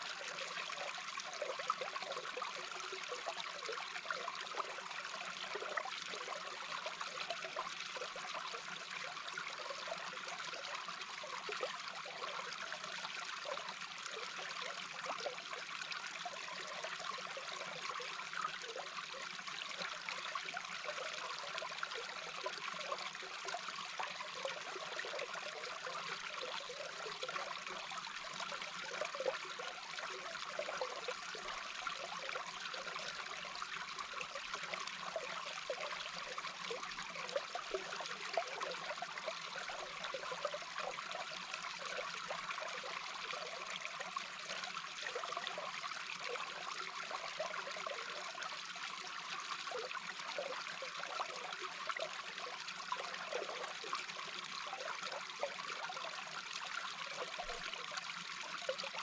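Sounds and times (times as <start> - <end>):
bubbling and gurgling: 0.0 - 59.0
underwater flowing water: 0.0 - 59.0.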